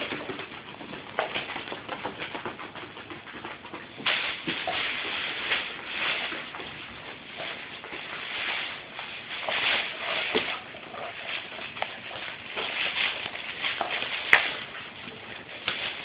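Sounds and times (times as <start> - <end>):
puppies scrambling on fabric: 0.0 - 16.0.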